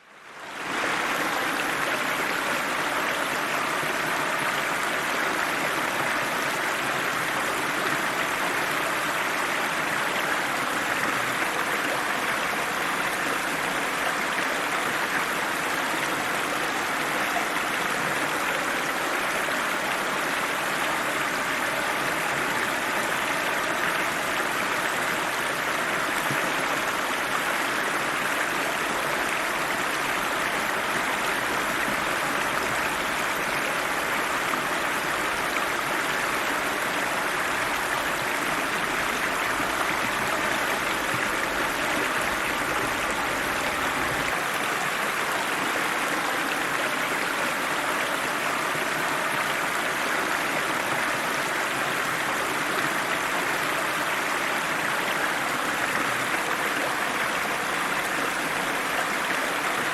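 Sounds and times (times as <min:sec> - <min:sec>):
water rushing over rocks: 0:00.3 - 0:59.9.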